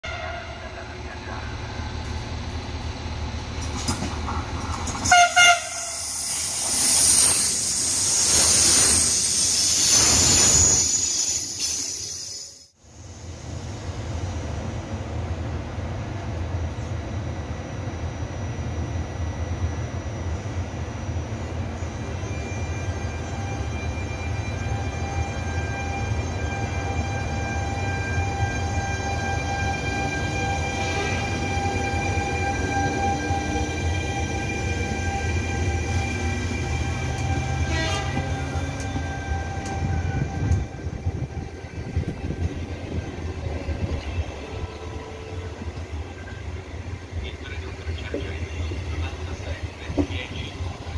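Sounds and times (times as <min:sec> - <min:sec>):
train wheels rumbling on track: 0:00.0 - 0:12.2, 0:12.8 - 0:50.9
electric locomotive whine: 0:00.0 - 0:50.9.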